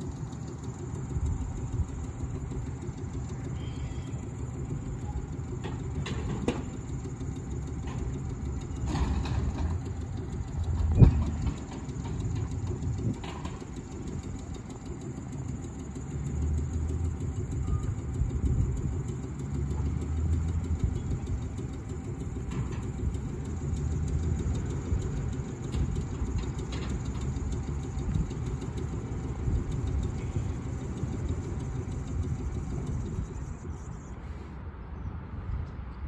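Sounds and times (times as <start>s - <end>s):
tram rumbling on rails: 0.0s - 34.3s.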